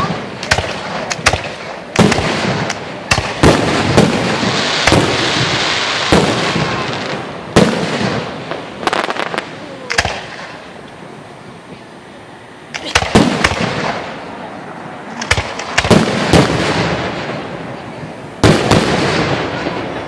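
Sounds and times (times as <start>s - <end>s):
firework bangs: 0.0s - 10.8s, 12.7s - 20.0s
firework crackle: 0.0s - 20.0s.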